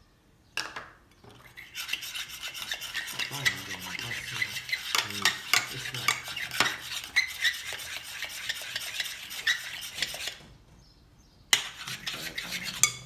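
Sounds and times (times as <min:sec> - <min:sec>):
spoon stirring sticky slime: 0:01.4 - 0:10.4, 0:11.6 - 0:13.0.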